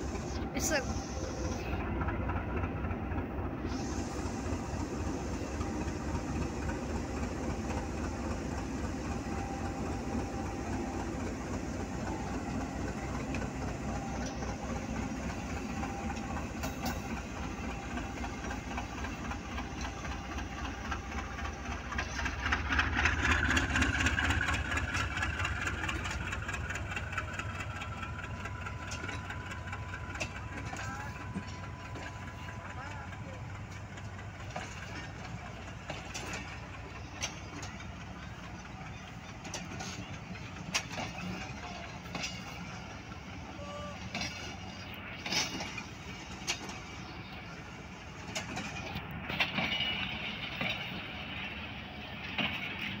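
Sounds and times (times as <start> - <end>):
diesel locomotive chugging: 0.0 - 53.0.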